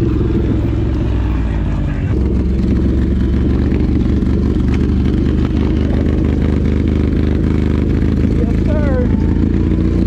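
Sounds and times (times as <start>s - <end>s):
motorbike engine at low revs: 0.0s - 10.0s.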